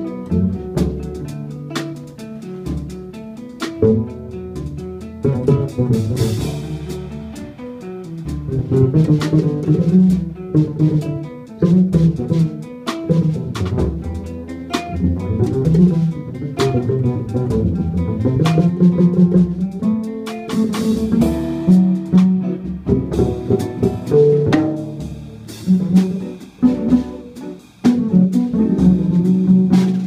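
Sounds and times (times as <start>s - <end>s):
drum and cymbal hits: 0.0s - 30.0s
electric guitar picking lines: 0.0s - 30.0s
upright bass walking line: 0.0s - 30.0s.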